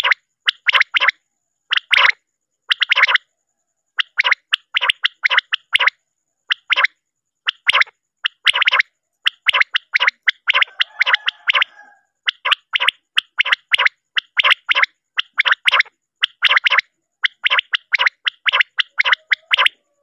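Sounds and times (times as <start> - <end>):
quail calling: 0.0 - 3.2, 4.0 - 20.0.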